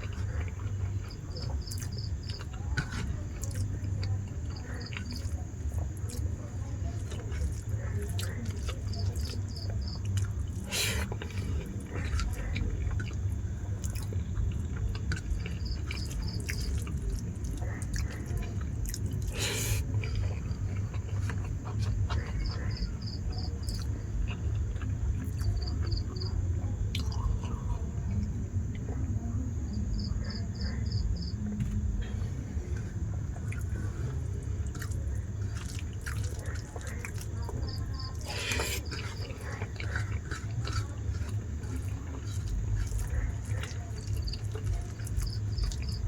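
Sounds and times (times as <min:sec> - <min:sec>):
person chewing food: 0:00.0 - 0:28.9, 0:30.9 - 0:46.0
cricket chirping: 0:00.0 - 0:46.0
steady low hum: 0:00.0 - 0:46.0.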